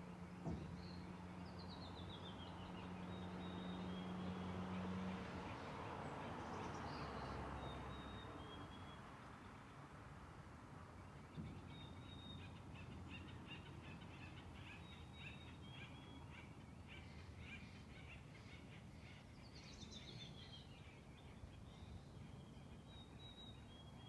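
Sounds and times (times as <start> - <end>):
forest background noise: 0.0 - 24.0
songbird chirping: 0.2 - 9.9, 10.6 - 24.0.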